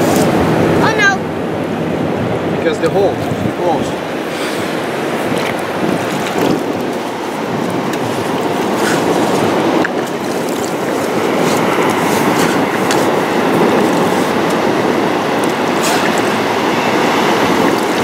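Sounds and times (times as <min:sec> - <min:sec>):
ocean surf: 0:00.0 - 0:18.0
wind on microphone: 0:00.0 - 0:18.0.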